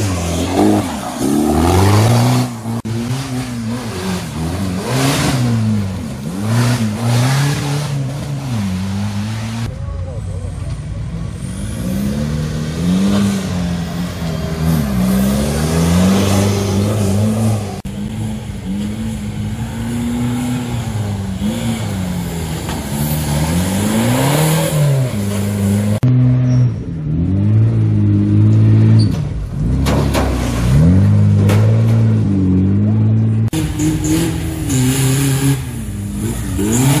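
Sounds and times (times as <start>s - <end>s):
engines revving: 0.0s - 37.0s.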